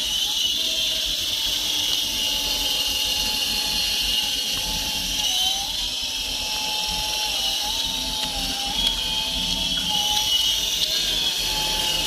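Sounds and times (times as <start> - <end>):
rc helicopter rotor whine: 0.0 - 12.0.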